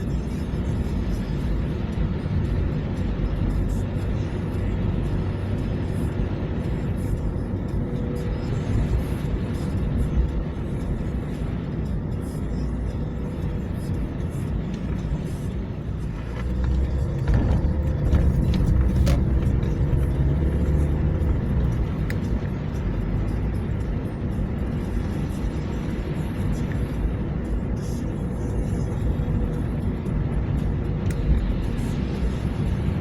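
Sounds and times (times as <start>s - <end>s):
car engine and road noise: 0.0s - 33.0s
faint music: 0.0s - 33.0s.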